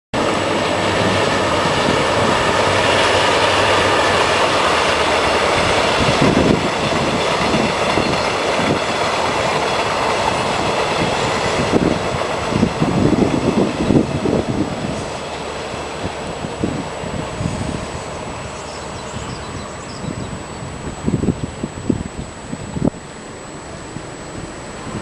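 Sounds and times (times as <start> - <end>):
train wheels rumbling on rails: 0.1 - 25.0
wind buffeting microphone: 0.2 - 25.0.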